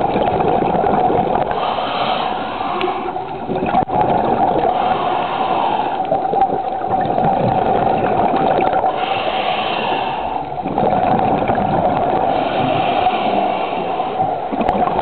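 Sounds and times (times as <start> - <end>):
steady hum: 0.0 - 15.0
underwater bubbles gurgling: 0.0 - 15.0.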